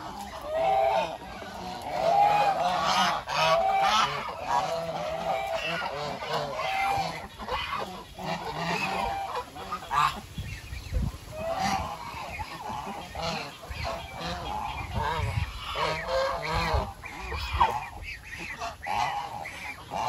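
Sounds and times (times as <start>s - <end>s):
geese honking: 0.0s - 20.0s.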